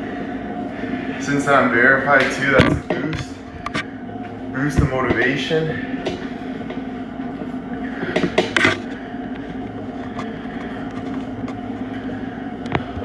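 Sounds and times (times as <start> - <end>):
exercise bike flywheel whirring: 0.0 - 13.0.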